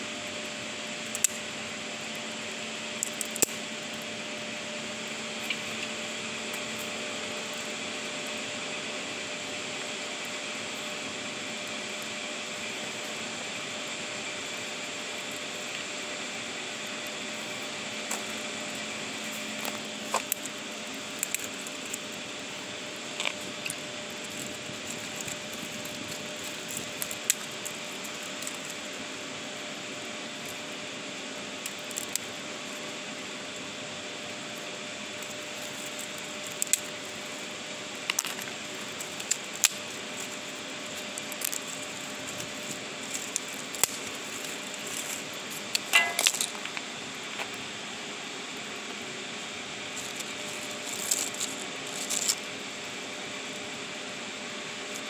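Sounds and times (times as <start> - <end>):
campfire crackling and popping: 0.4 - 55.0.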